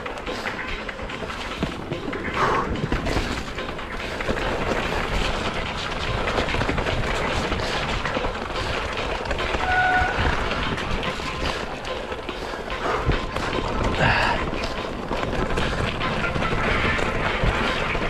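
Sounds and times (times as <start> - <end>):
mountain bike rattling over rough ground: 0.0 - 18.0.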